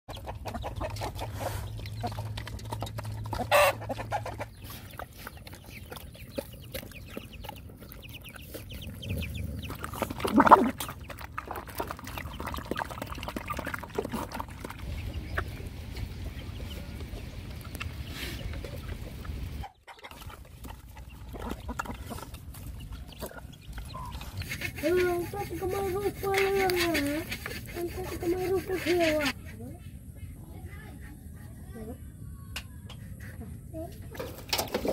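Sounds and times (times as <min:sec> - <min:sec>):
dogs chewing and lapping: 0:00.1 - 0:29.7
chickens clucking: 0:00.1 - 0:34.9.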